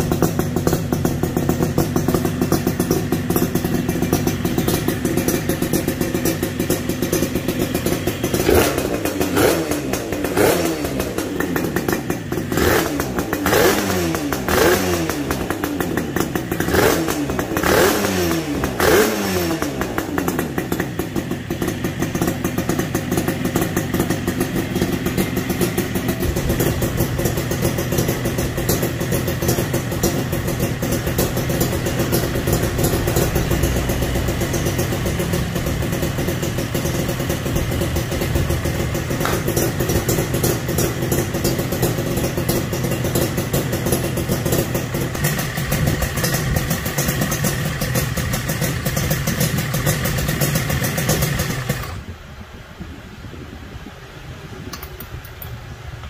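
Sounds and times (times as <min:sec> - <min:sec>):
motorcycle engine revving and idling: 0:00.0 - 0:52.7.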